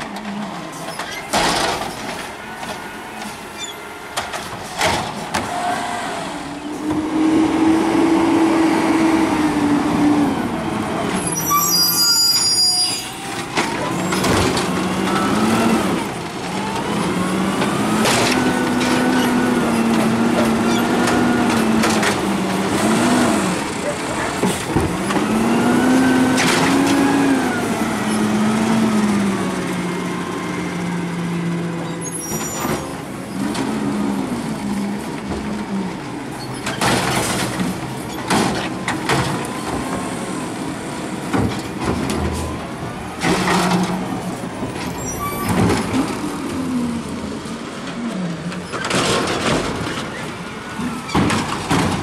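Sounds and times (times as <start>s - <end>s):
garbage truck engine revving: 4.0s - 52.0s.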